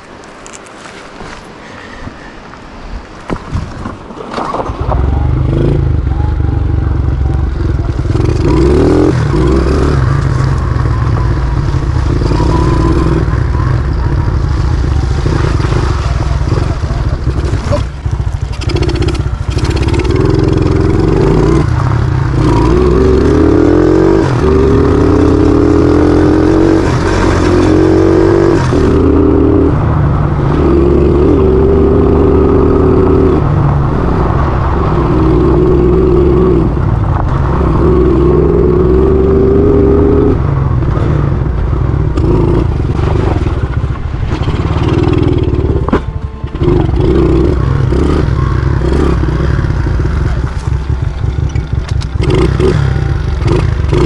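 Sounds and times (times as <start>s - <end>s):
motorbike engine revving: 4.7s - 54.0s.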